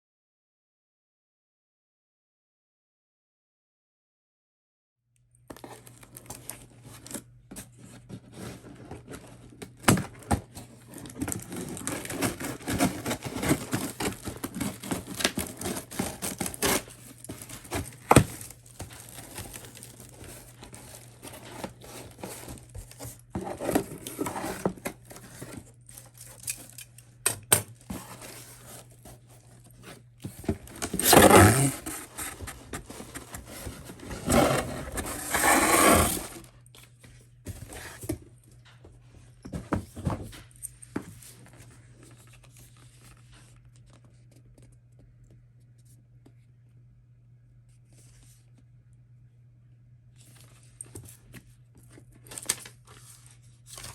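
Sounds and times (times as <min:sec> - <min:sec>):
cardboard and plastic rustling: 0:05.5 - 0:44.9, 0:50.1 - 0:53.9.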